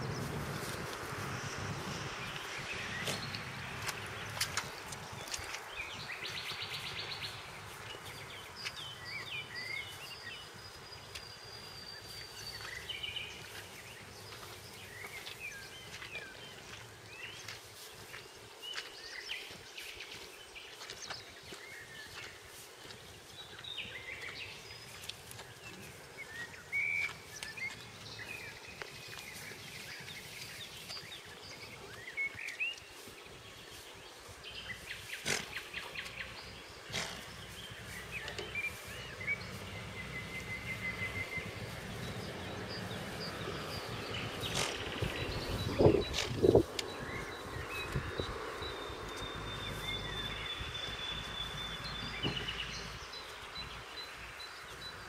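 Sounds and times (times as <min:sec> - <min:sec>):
faint outdoor background hiss: 0:00.0 - 0:55.0
songbirds singing and chirping: 0:00.0 - 0:55.0.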